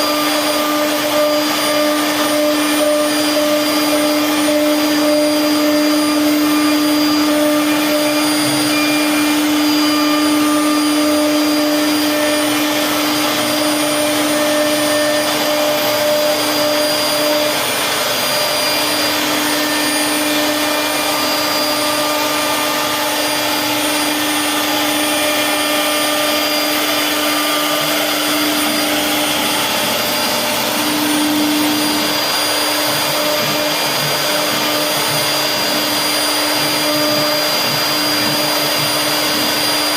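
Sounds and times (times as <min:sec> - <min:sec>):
router spindle whine: 0:00.0 - 0:39.9
rushing noise of wood carving: 0:00.0 - 0:39.9.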